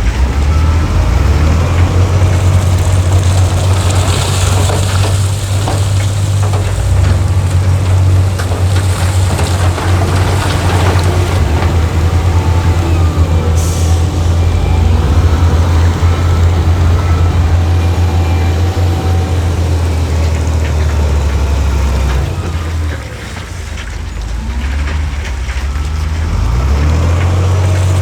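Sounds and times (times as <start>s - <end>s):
diesel machinery engine drone: 0.0s - 28.0s
clattering gravelly noise: 1.7s - 28.0s.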